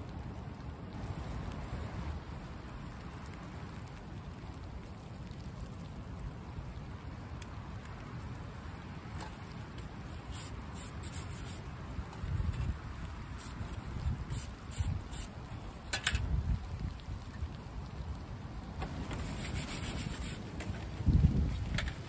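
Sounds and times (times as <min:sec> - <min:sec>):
wind and rain: 0:00.0 - 0:22.0
wind buffeting microphone: 0:00.0 - 0:22.0.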